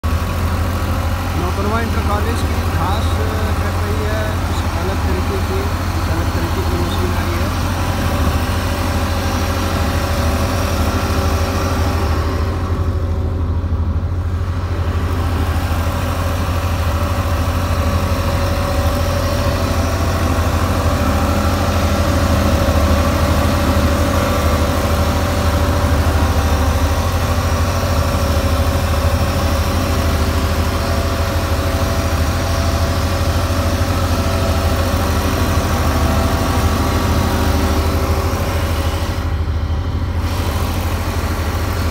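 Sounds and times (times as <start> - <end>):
tractor engine with flail mower: 0.0 - 41.9.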